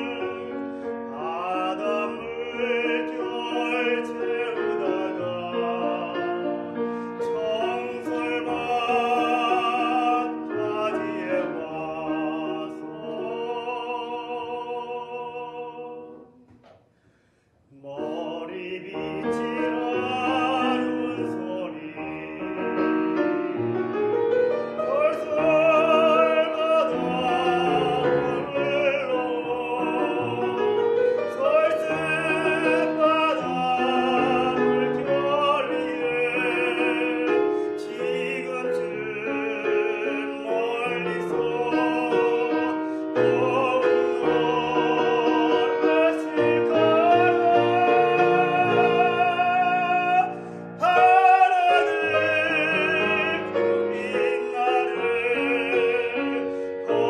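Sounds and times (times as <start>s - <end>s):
tenor singing operatically: 0.0s - 16.4s, 17.7s - 23.3s, 24.7s - 57.0s
grand piano accompaniment: 0.0s - 57.0s.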